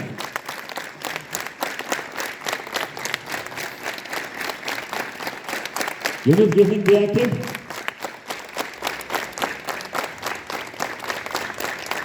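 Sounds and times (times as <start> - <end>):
children clapping: 0.0 - 12.0.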